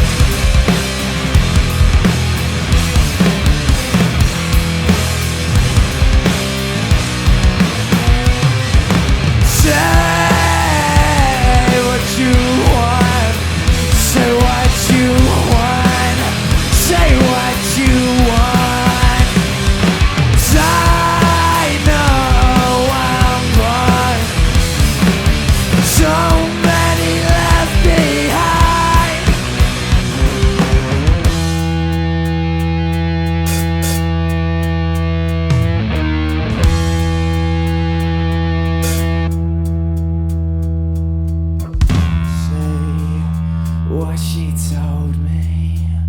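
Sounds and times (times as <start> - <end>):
bending lead guitar melody: 0.0 - 42.3
rock band playing: 0.0 - 44.0.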